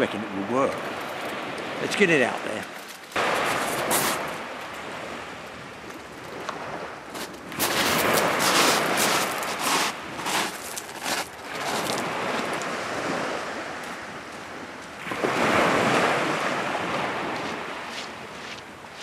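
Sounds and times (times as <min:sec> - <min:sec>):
waves breaking on shingle beach: 0:00.1 - 0:19.0.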